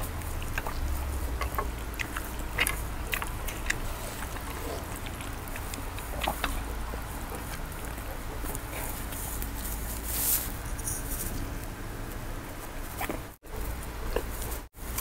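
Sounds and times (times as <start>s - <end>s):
chewing mouth sounds: 0.0s - 10.0s, 11.4s - 15.0s
hissing rustle: 0.0s - 15.0s
steady low hum: 0.0s - 15.0s.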